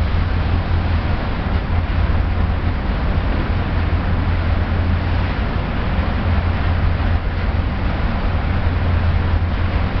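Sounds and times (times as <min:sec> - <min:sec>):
ferry engines humming: 0:00.0 - 0:10.0
wind and water rushing: 0:00.0 - 0:10.0.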